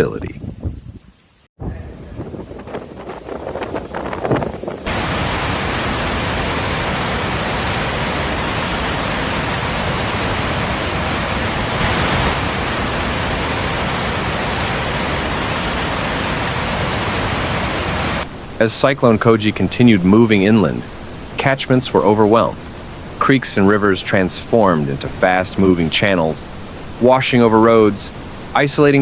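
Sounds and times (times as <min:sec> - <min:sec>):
water rushing: 0:02.9 - 0:29.0.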